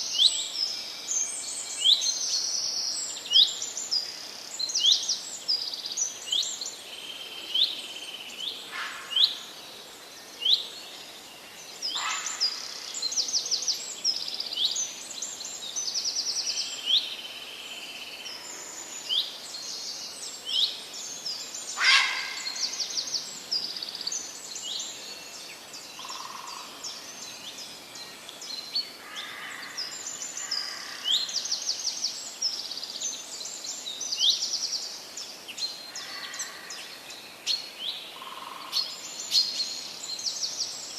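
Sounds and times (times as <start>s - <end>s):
background hiss: 0.0s - 40.9s
songbirds singing and chirping: 0.0s - 40.9s.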